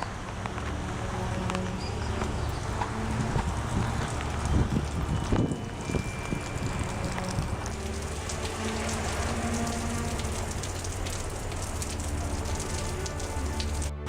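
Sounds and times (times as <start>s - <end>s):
heavy rain pouring: 0.0s - 14.0s
raindrops pattering close: 0.0s - 14.0s.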